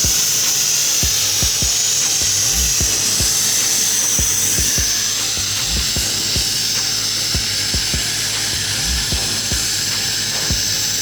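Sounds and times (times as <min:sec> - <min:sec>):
background music with bass beat: 0:00.0 - 0:11.0
sandblaster hissing: 0:00.0 - 0:11.0.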